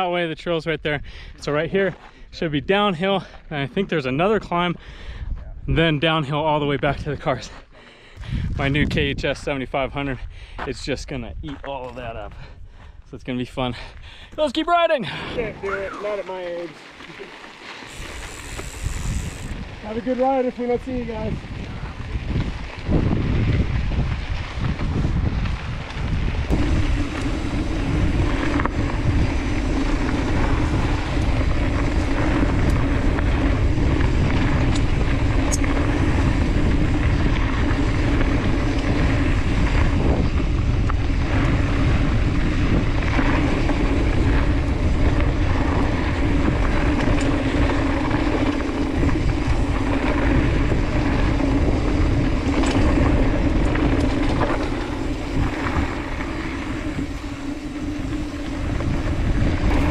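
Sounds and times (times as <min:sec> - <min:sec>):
bike tyres rolling on dirt: 0:00.0 - 0:59.9
wind on microphone: 0:04.2 - 0:14.2, 0:17.9 - 0:59.9.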